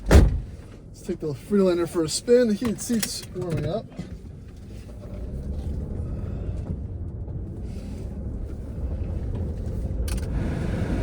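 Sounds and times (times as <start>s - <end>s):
engine and road rumble in car: 0.0s - 11.0s.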